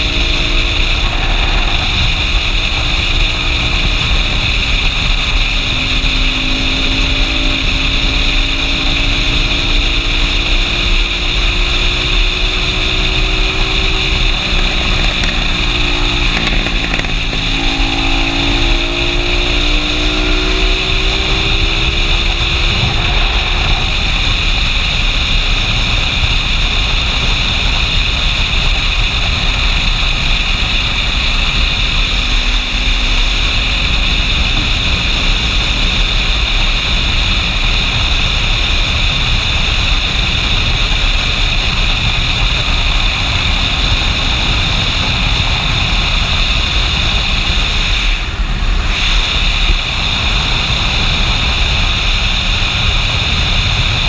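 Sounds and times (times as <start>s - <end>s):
motorcycle engine: 0.0s - 54.0s
wind rushing over camera: 0.0s - 54.0s.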